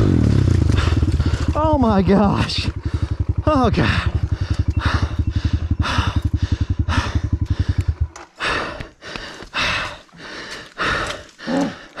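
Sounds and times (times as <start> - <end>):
motorbike engine idling: 0.0 - 10.0
heavy breathing: 0.7 - 1.6, 2.7 - 12.0.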